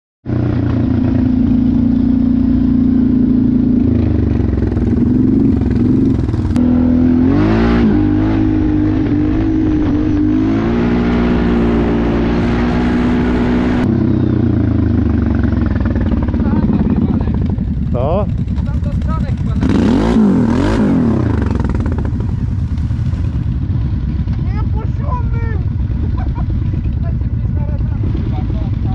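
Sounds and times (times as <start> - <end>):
atv engine revving: 0.3 - 28.9.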